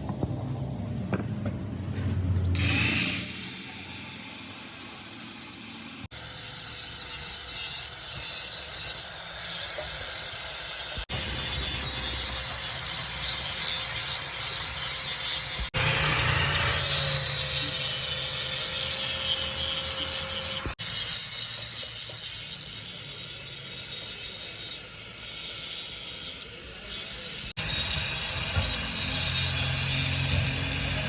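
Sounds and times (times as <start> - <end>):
metalworking machine noise: 0.0 - 31.0.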